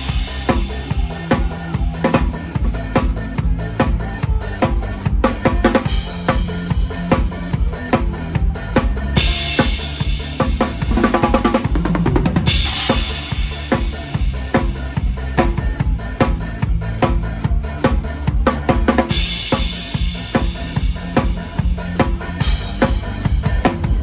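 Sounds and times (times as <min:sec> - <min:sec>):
cymbals washing: 0:00.0 - 0:11.8, 0:12.4 - 0:24.0
band playing driving beat: 0:00.0 - 0:24.0
bass line: 0:00.0 - 0:24.0
rapid drum fill: 0:00.0 - 0:24.0.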